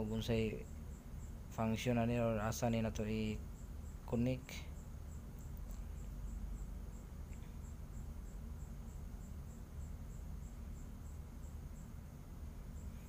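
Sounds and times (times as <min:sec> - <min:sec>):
cricket chirping: 0:00.0 - 0:13.0
low steady hum: 0:00.0 - 0:13.0.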